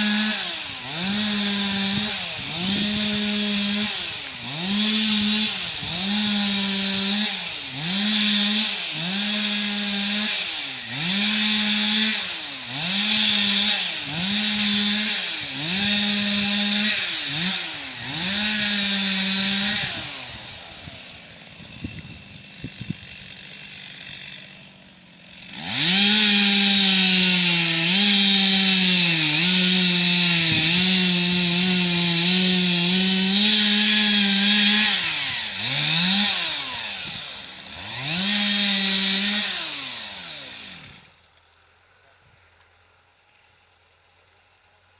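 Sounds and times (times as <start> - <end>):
chainsaw cutting: 0.0 - 41.4.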